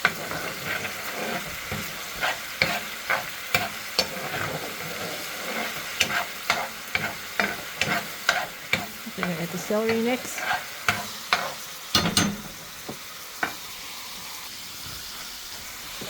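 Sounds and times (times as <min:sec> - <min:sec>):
utensil scraping pan: 0:00.0 - 0:13.6
onions sizzling in pan: 0:00.0 - 0:16.0.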